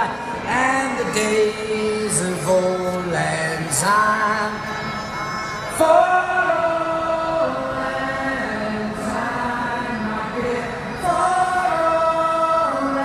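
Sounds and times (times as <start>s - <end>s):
crowd singing long notes: 0.0s - 13.0s.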